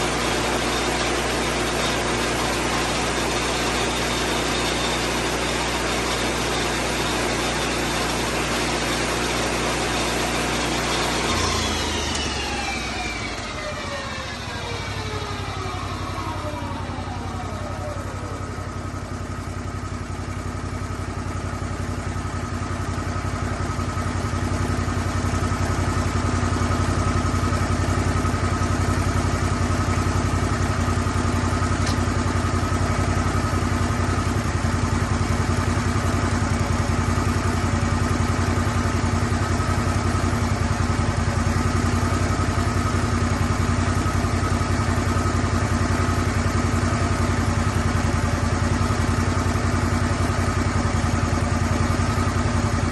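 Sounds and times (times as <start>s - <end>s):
sawmill engine running: 0.0s - 52.9s.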